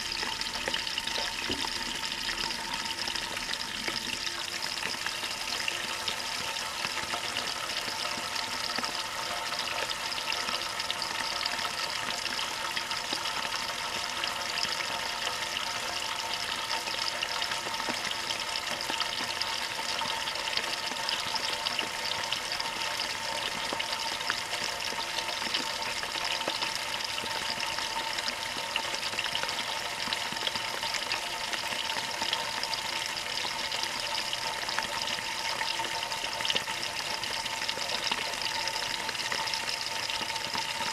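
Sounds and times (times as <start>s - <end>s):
water pouring into a tub: 0.0s - 40.9s.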